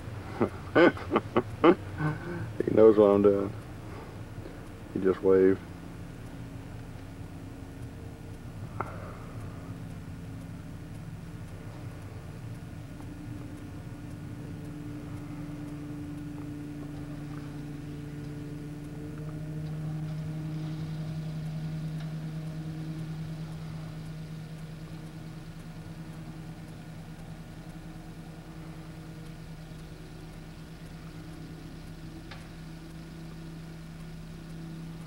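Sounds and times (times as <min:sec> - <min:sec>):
distant lawn mower engine: 0:00.0 - 0:35.0.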